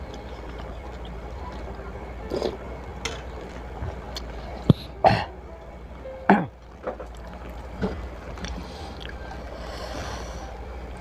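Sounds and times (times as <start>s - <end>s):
man chewing food: 0.0s - 5.4s, 6.4s - 11.0s
low steady hum: 0.0s - 11.0s.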